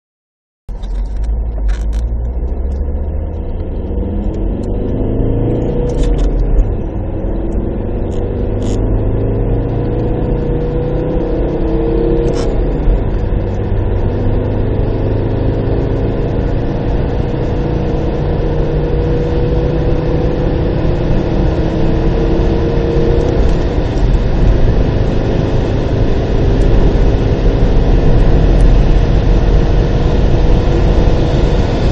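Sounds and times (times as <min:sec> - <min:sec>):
car engine accelerating: 0:00.7 - 0:31.9
road and wind noise: 0:00.7 - 0:31.9.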